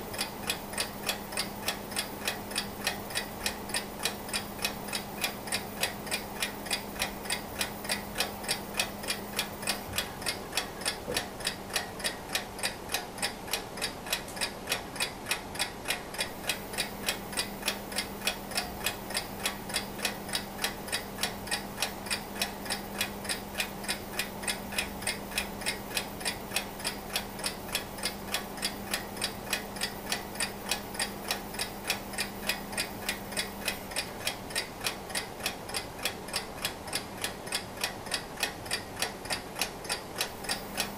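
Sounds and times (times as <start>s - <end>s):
mechanical clock ticking: 0.0s - 40.9s.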